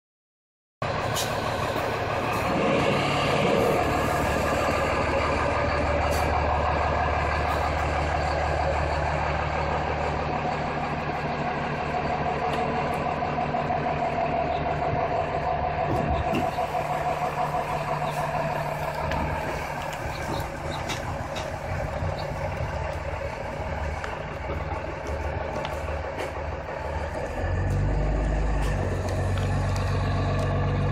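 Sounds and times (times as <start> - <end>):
motorhome engine humming: 0.8 - 30.9.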